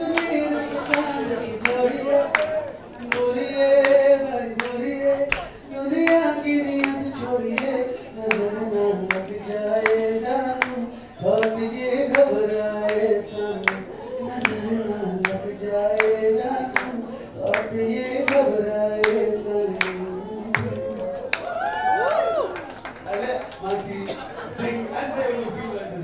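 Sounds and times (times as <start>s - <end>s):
man singing into a microphone: 0.0s - 21.4s
people clapping along: 0.0s - 24.8s.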